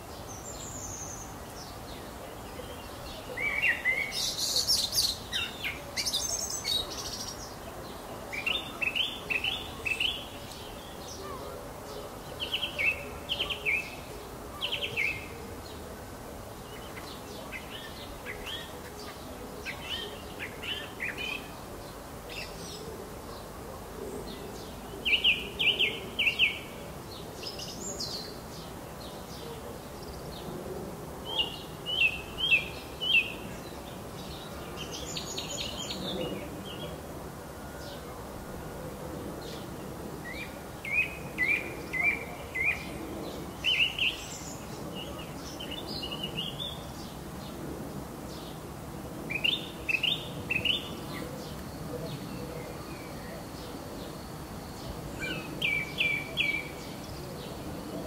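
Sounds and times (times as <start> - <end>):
songbirds singing: 0.0 - 58.0
steady background noise: 0.0 - 58.0.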